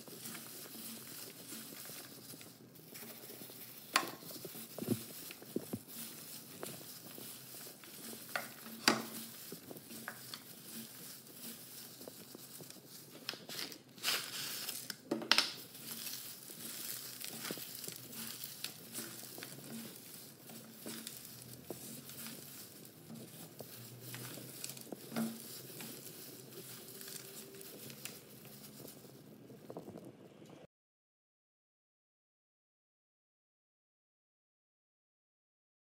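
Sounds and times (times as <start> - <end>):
crisp food pieces rustling: 0.0 - 30.4
plastic glove crinkling: 0.0 - 30.6.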